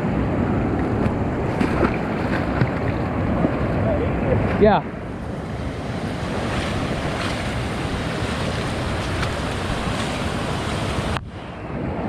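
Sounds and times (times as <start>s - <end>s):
flowing water rushing: 0.8s - 12.0s.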